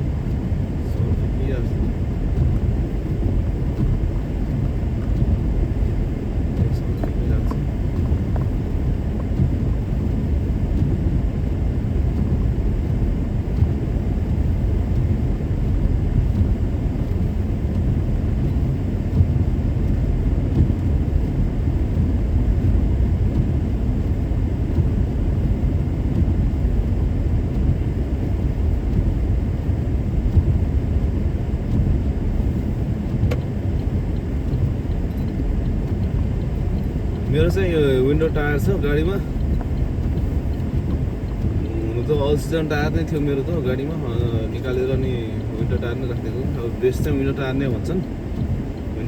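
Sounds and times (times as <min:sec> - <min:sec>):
car driving on snowy road: 0:00.0 - 0:49.0.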